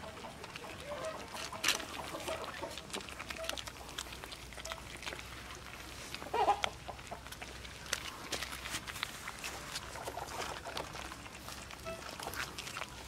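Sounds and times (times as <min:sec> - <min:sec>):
puppies chewing: 0:00.0 - 0:13.0.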